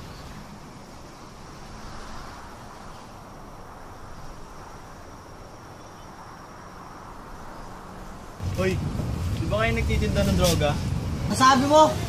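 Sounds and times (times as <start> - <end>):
high insect drone: 0.0 - 12.0
low steady hiss: 0.0 - 12.0.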